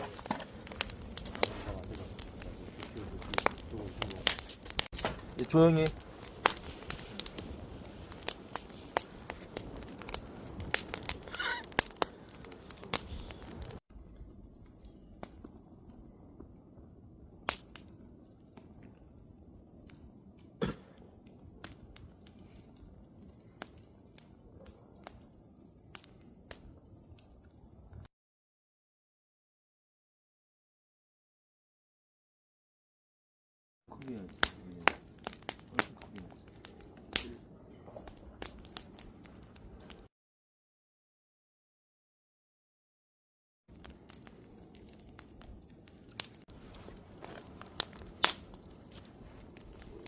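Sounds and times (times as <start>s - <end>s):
wood fire crackling and popping: 0.0s - 28.1s, 33.9s - 40.1s, 43.7s - 50.0s.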